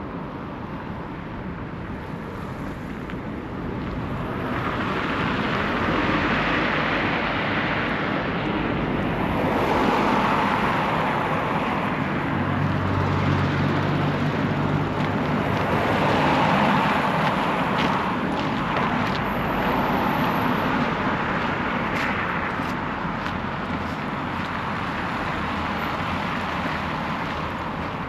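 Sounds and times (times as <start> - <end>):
traffic hum: 0.0 - 28.0
vehicle passing: 4.2 - 28.0.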